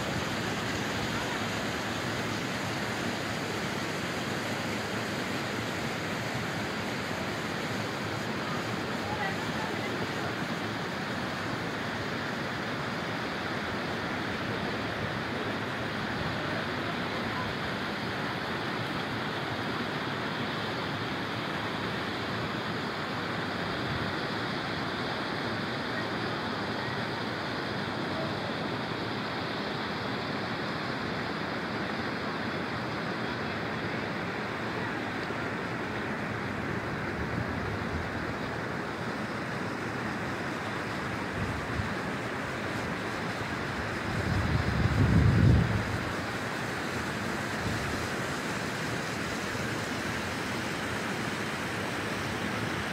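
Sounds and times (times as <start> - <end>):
creek rushing over boulders: 0.0 - 52.9.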